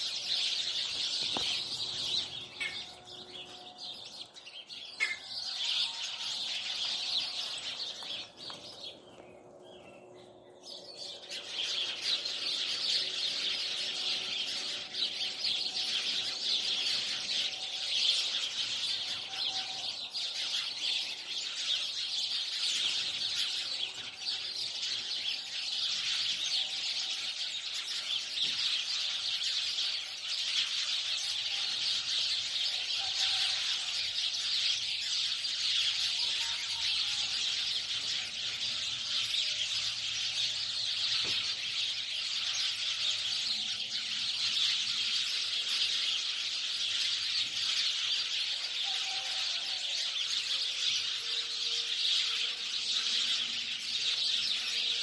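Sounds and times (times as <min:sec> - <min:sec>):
birds chirping chorus: 0:00.0 - 0:55.0.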